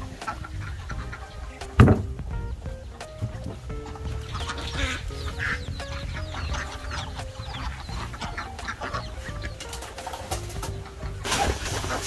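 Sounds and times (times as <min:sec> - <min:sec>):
background music with held notes: 0:00.0 - 0:12.0
chickens clucking: 0:00.0 - 0:12.0
chickens squawking: 0:00.0 - 0:12.0.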